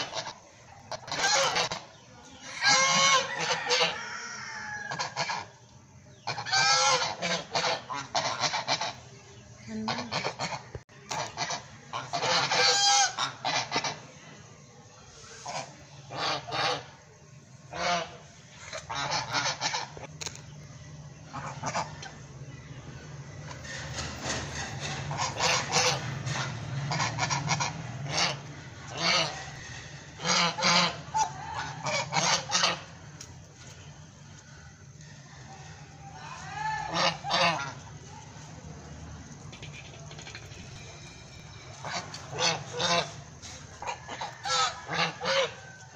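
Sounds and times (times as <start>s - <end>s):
geese honking: 0.0s - 14.4s, 15.2s - 20.2s, 21.2s - 22.8s, 23.4s - 45.9s.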